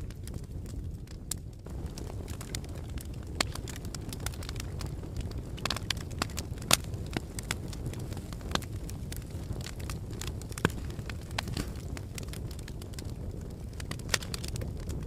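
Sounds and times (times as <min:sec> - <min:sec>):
fire crackles and pops: 0:00.0 - 0:15.0
wood fire rumbling: 0:00.0 - 0:15.0.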